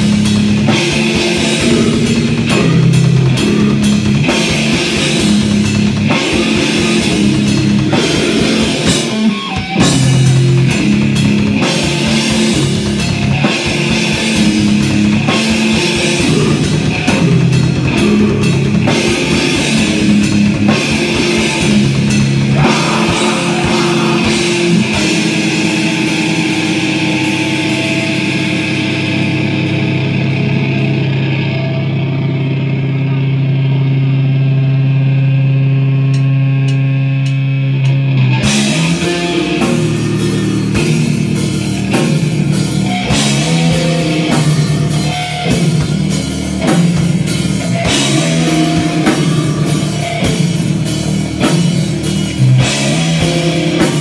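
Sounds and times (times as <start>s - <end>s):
live metal band playing: 0.0s - 54.0s.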